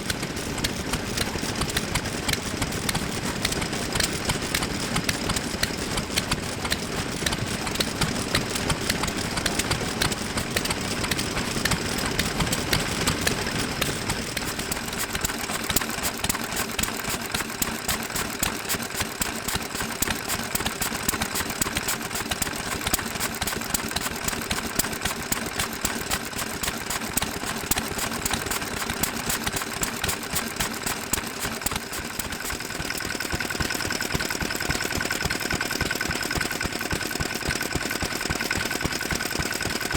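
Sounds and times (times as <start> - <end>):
engines running with exhaust beat: 0.0 - 39.9.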